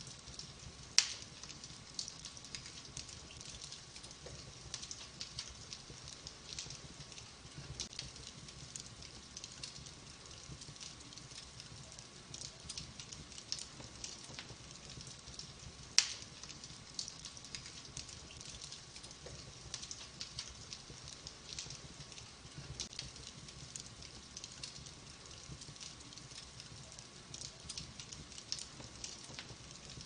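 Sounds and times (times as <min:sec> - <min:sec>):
logs crackling and popping: 0:00.0 - 0:30.0
low rumble of flame: 0:00.0 - 0:30.0.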